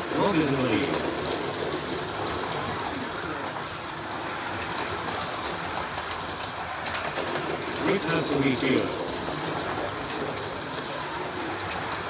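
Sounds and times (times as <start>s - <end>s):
slot cars whirring on track: 0.0s - 12.0s.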